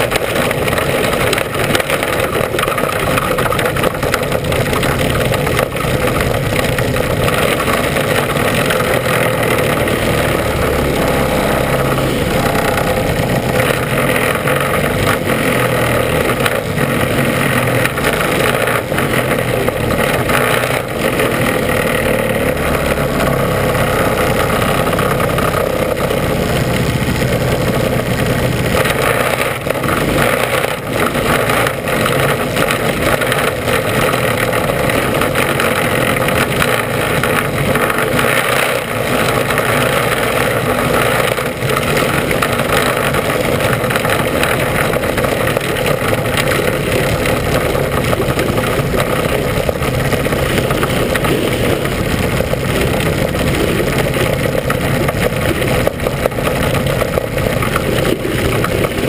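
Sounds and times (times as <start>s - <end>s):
race car engine running loudly: 0.0s - 59.0s.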